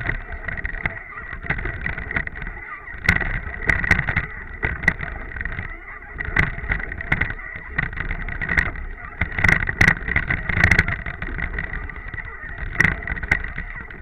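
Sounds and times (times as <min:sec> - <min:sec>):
water rushing against boat: 0:00.0 - 0:14.0
wind on microphone: 0:00.0 - 0:14.0.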